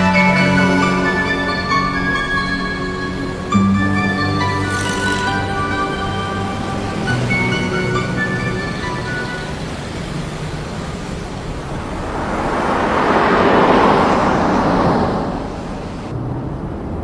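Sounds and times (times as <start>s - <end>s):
car driving past: 0.0s - 17.0s
street traffic noise: 0.0s - 17.0s.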